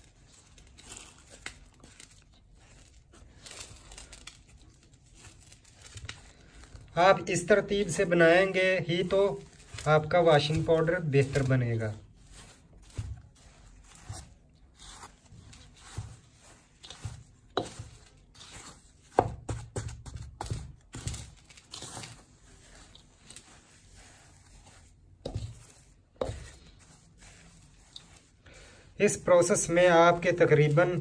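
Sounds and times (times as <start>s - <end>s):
plastic scoop scraping steel bowl: 5.9s - 31.0s.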